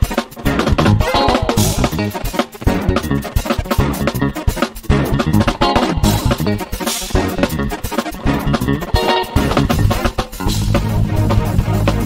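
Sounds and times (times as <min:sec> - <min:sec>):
music with steady beat: 0:00.0 - 0:12.0
sustained bass line: 0:00.5 - 0:12.0.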